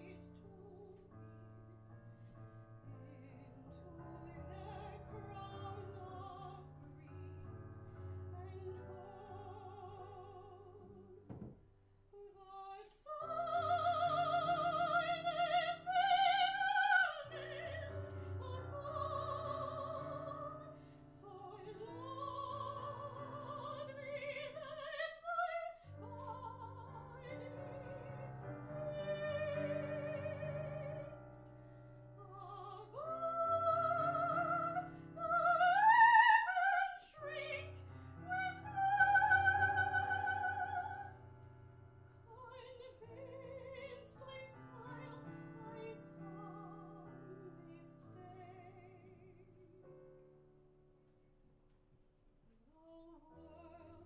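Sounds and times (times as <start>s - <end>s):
soprano singing with vibrato: 0.0s - 1.2s, 2.9s - 11.4s, 12.2s - 31.6s, 32.2s - 41.2s, 42.3s - 49.8s, 52.6s - 54.0s
piano accompaniment: 0.0s - 51.5s.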